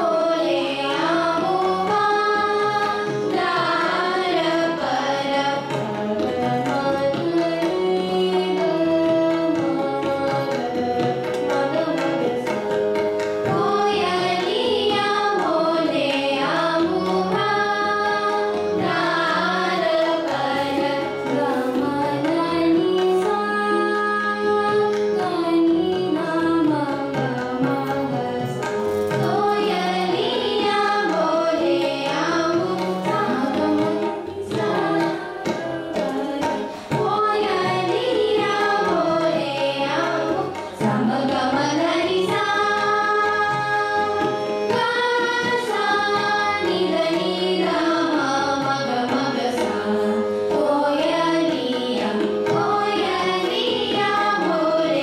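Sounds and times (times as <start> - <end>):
girls singing classical vocals: 0.0 - 55.0
harmonium: 0.0 - 55.0
tabla playing: 0.0 - 55.0.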